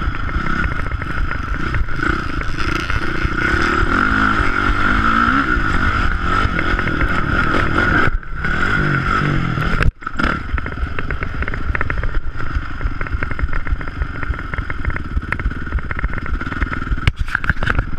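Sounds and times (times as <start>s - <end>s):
dirt bike engine revving: 0.0s - 17.1s.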